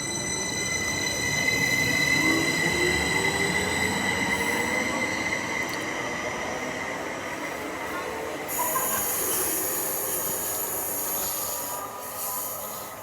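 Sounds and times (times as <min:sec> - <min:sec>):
train whine and rumble: 0:00.0 - 0:13.0.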